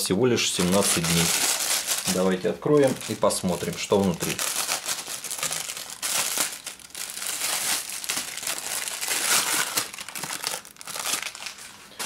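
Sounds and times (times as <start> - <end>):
plastic packet crinkling: 0.4 - 12.0.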